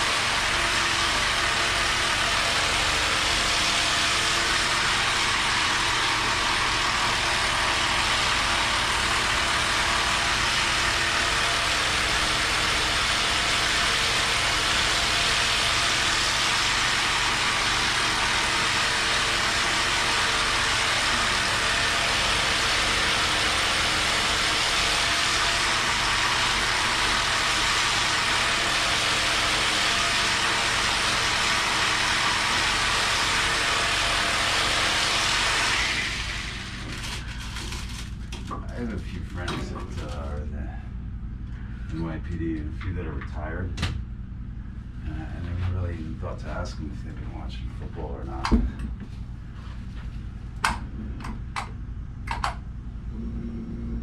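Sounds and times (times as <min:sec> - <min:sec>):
massager motor humming and pulsing: 0:00.0 - 0:54.0.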